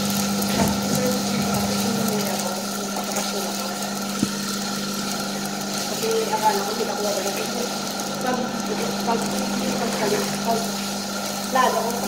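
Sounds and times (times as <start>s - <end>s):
electric machine humming: 0.0s - 12.0s.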